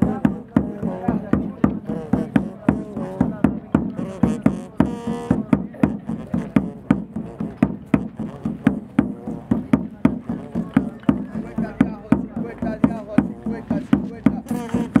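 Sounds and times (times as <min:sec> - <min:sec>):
music with fast percussive beat: 0:00.0 - 0:15.0.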